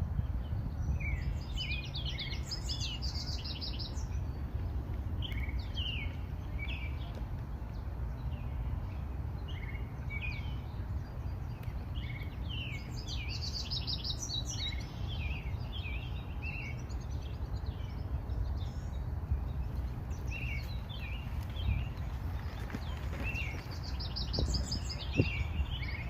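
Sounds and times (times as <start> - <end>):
low background rumble: 0.0 - 26.0
songbirds chirping and singing: 0.0 - 26.0.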